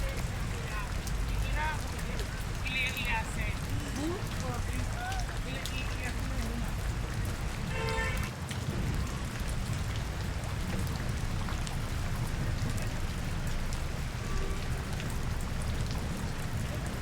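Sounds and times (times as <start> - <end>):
rain on street: 0.0 - 17.0.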